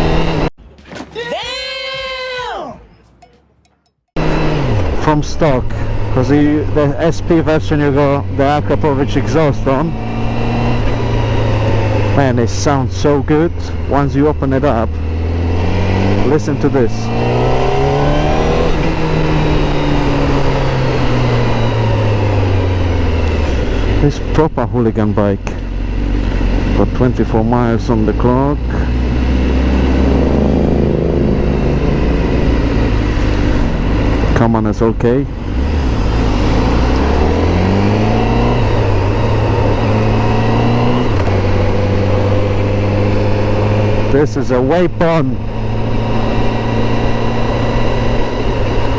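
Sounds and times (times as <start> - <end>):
motorcycle engine accelerating: 0.0 - 0.6, 4.2 - 48.9.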